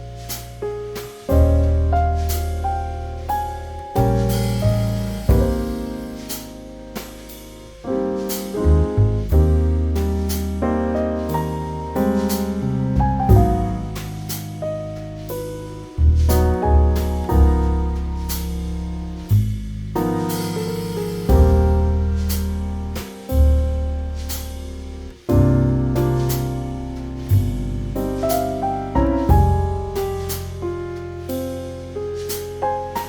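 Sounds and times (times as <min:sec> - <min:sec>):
calm piano music: 0:00.0 - 0:19.4, 0:20.0 - 0:33.0.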